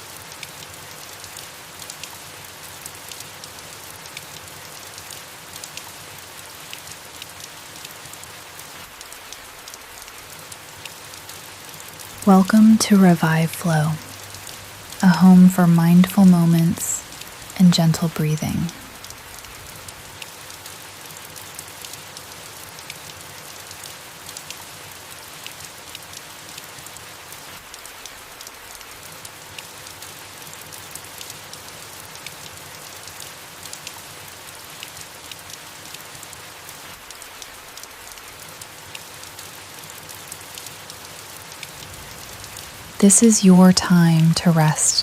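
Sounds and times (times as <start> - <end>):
soft rain falling on leaves: 0.0 - 45.0.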